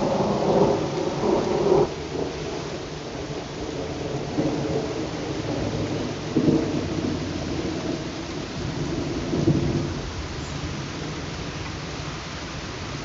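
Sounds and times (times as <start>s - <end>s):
rain falling hiss: 0.0s - 13.0s.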